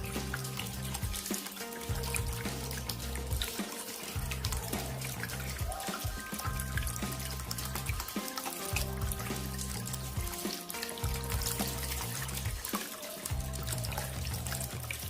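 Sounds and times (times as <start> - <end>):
background music with bass: 0.0 - 12.7, 13.3 - 15.0
water trickling and splashing: 0.0 - 15.0.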